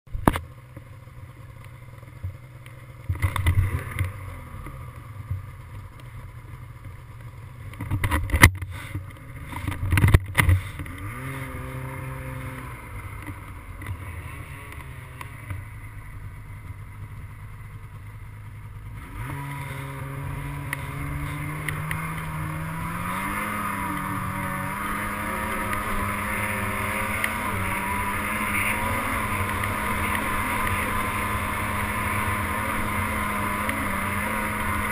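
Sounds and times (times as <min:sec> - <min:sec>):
snowmobile engine running: 0:00.1 - 0:34.9.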